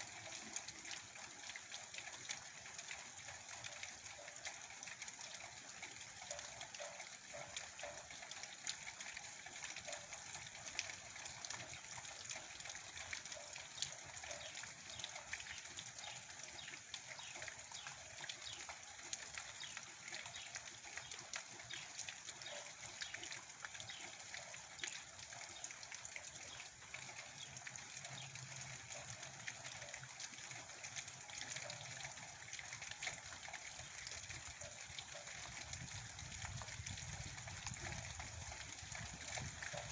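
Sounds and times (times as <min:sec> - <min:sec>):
steady rain with drop hits: 0:00.0 - 0:39.9.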